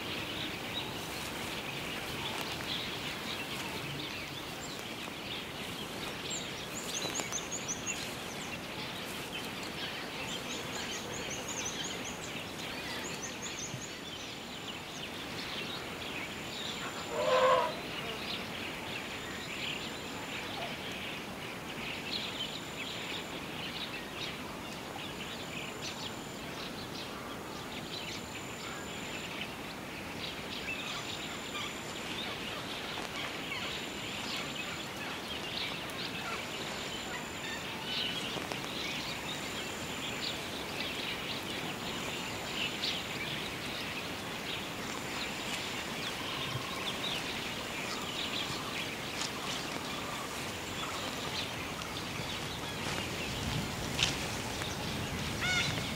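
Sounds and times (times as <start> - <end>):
small birds chattering: 0.0 - 19.2, 19.8 - 55.9.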